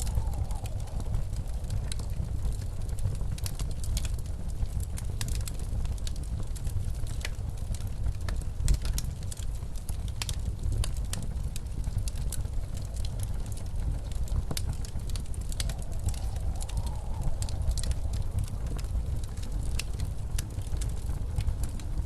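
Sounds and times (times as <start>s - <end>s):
blizzard wind rumble: 0.0s - 22.0s
wood fire crackling: 0.0s - 22.0s.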